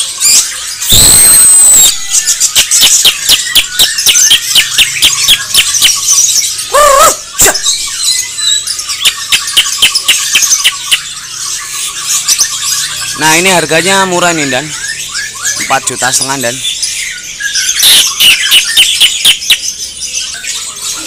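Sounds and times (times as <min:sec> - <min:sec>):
loud harsh bird call: 0:00.0 - 0:21.0
low wavering squawk: 0:00.0 - 0:21.0
songbirds singing and chirping: 0:00.0 - 0:21.0.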